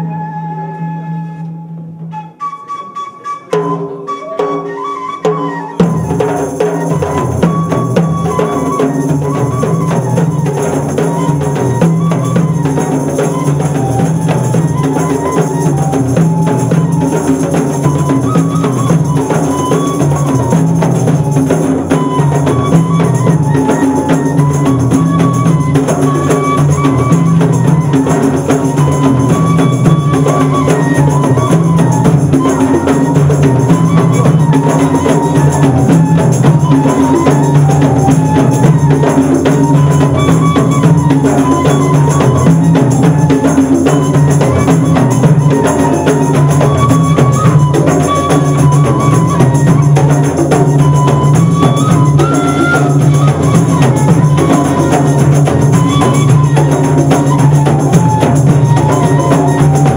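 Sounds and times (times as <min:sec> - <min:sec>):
flute melody: 0:00.0 - 0:59.9
frame drums beating: 0:03.6 - 0:59.9.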